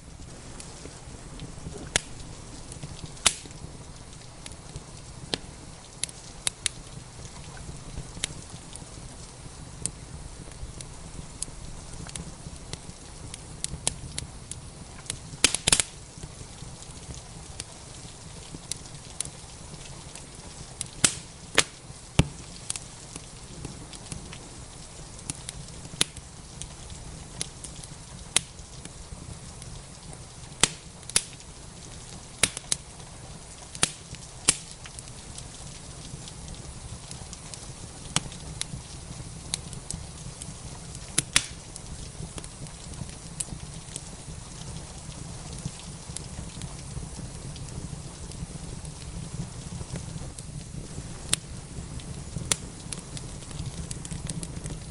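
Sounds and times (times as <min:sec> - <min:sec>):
fire pops and snaps: 0:00.0 - 0:54.9
low hiss: 0:00.0 - 0:54.9
wood fire crackling: 0:00.0 - 0:54.9.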